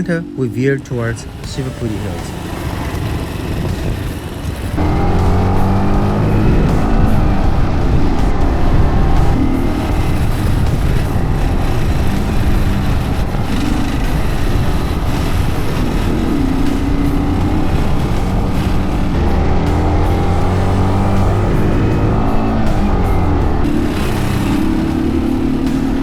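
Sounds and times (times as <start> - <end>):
dirt bike engine running: 0.9 - 26.0.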